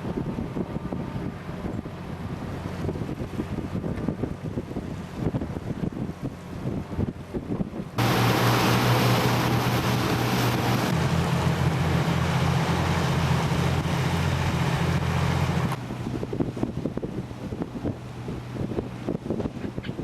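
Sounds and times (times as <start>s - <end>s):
boat engine running: 0.0s - 20.0s
wind and water rushing: 0.0s - 20.0s.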